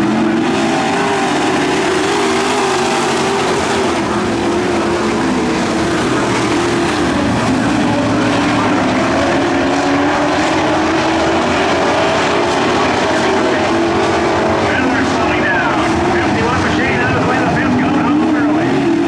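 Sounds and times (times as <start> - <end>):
racing truck engines droning: 0.0 - 19.0.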